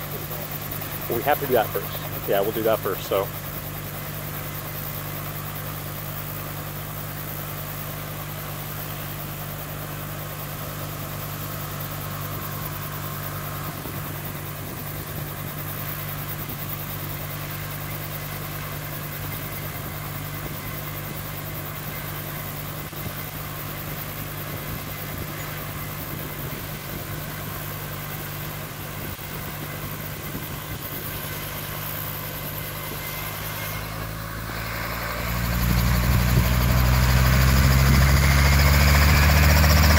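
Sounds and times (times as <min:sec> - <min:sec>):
helicopter engine and rotor idling: 0:00.0 - 0:39.9.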